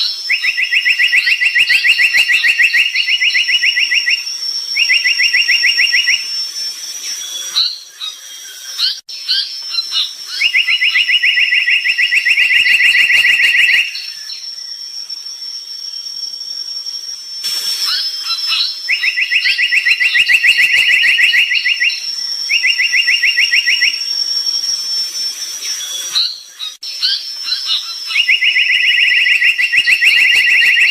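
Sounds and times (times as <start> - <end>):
bird trilling: 0.0 - 16.0, 17.4 - 30.9
bird chirps: 0.0 - 30.9.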